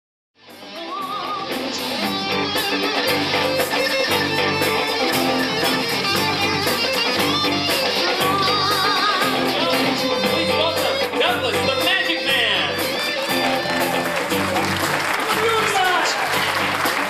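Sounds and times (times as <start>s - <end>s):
guitar music with steady beat: 0.4s - 14.9s.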